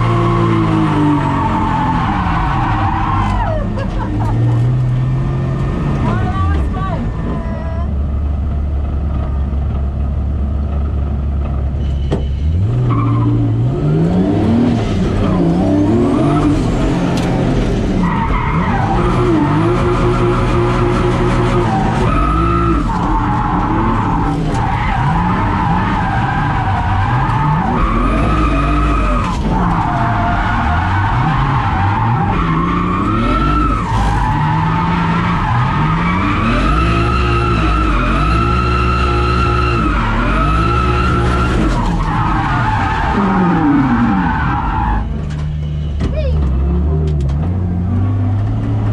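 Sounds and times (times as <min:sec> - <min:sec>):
car engine revving: 0:00.0 - 0:11.6, 0:12.4 - 0:48.9.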